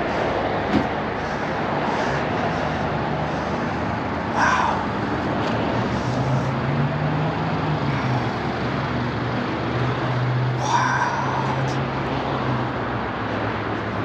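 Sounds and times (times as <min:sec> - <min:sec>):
low engine hum: 0:00.0 - 0:14.0
passing vehicles: 0:00.0 - 0:14.0.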